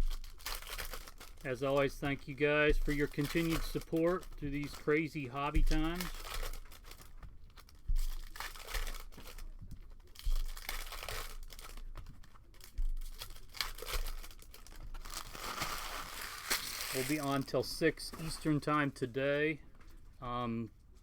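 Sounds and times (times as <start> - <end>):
card pack wrappers tearing and crinkling: 0.0 - 18.9.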